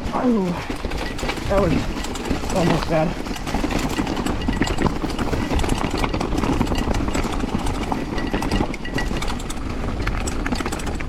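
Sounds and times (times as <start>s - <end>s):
chain and bike parts rattling: 0.0s - 11.0s
tyres on dirt: 0.0s - 11.0s.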